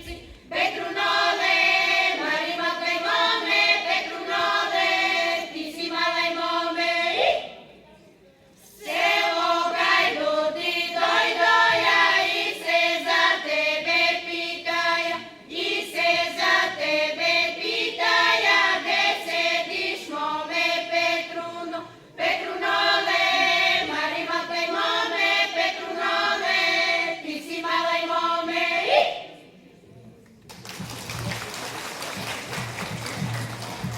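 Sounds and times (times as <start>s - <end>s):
choir singing: 0.0s - 7.5s, 8.6s - 29.4s.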